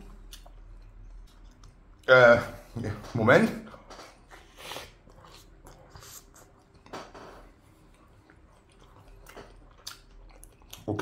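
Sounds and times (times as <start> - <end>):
faint chewing: 0.0 - 2.1, 3.7 - 11.0.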